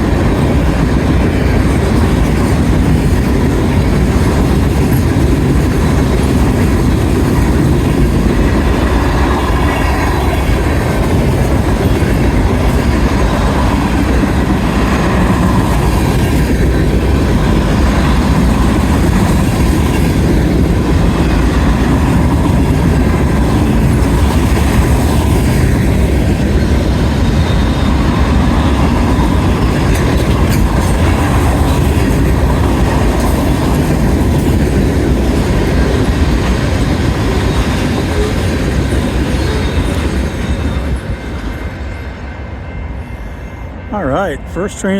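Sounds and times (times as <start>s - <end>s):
train wheels on rails: 0.0s - 44.9s.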